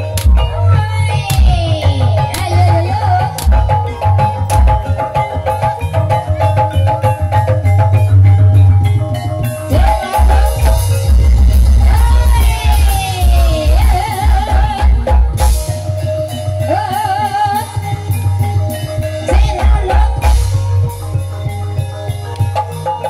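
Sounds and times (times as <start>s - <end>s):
hand drum and gong beat: 0.0s - 23.0s
tuned percussion notes: 0.0s - 23.0s.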